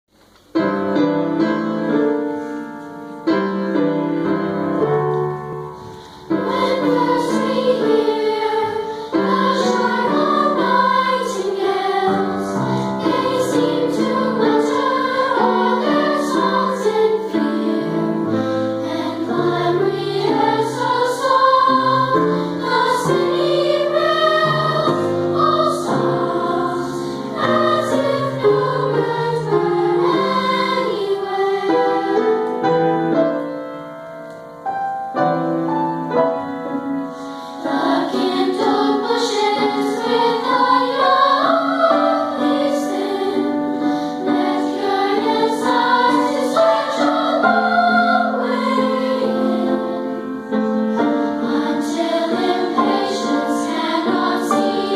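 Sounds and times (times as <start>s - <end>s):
piano accompaniment: 0.3s - 54.9s
choir singing: 3.2s - 33.2s, 37.2s - 54.9s.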